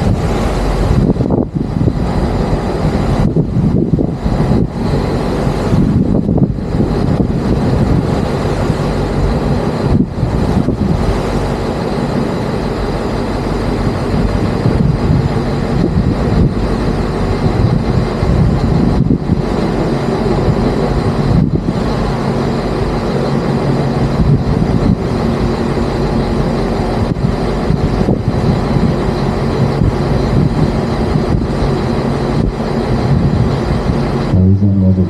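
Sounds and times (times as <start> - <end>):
rushing water: 0.0 - 34.3
boat engine drone: 0.0 - 35.0.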